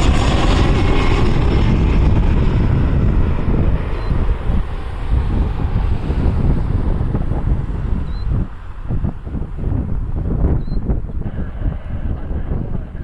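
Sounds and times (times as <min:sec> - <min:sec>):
jet airliner engines passing: 0:00.0 - 0:13.0
wind buffeting microphone: 0:00.0 - 0:13.0.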